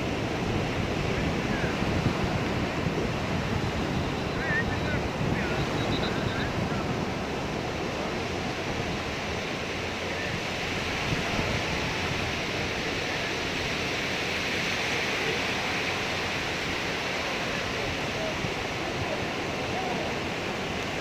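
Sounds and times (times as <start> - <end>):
sea surf washing on beach: 0.0 - 21.0.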